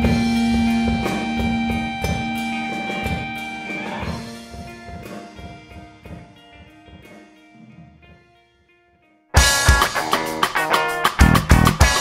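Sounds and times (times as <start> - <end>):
rock band drums and guitar: 0.0 - 8.1, 9.4 - 12.0.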